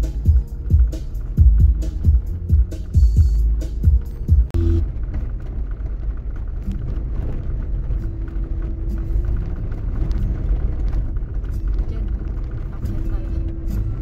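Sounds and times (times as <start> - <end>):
vehicle rumbling on gravel: 0.0 - 14.0.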